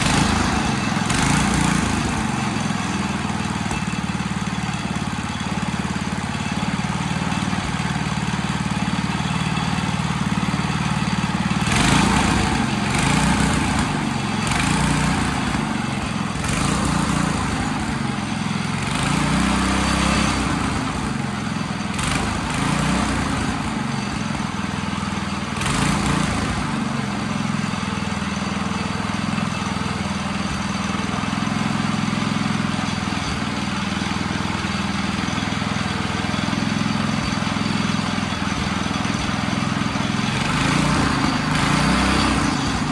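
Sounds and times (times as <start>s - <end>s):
small gasoline engine running: 0.0s - 42.9s.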